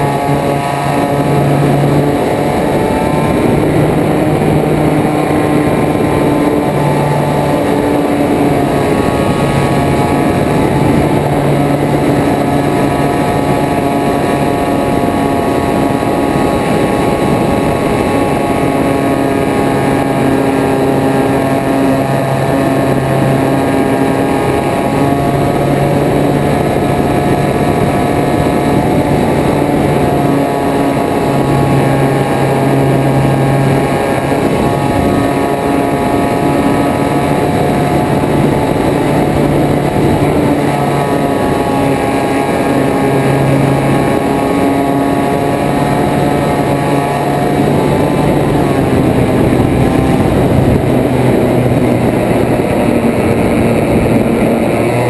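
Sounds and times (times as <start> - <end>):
propeller aircraft engine: 0.0 - 55.0
wind rushing past: 0.0 - 55.0.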